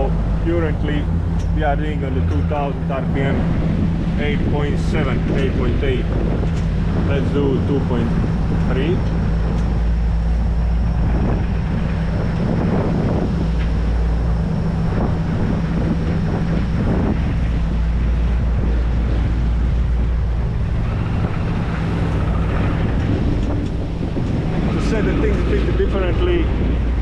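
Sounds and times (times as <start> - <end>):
boat diesel engine running: 0.0 - 27.0
wind buffeting microphone: 0.0 - 27.0.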